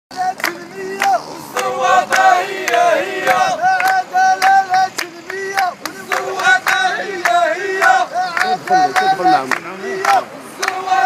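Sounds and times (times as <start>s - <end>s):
crowd chanting in unison: 0.1s - 11.0s.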